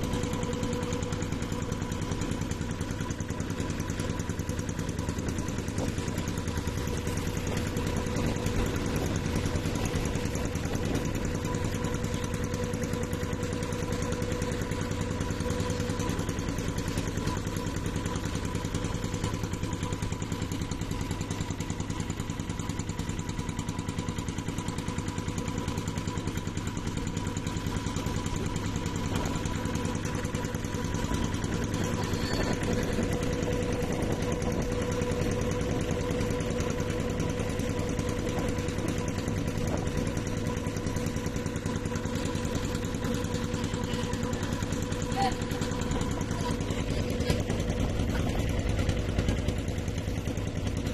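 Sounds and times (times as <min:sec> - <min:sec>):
boat engine humming: 0:00.0 - 0:50.9.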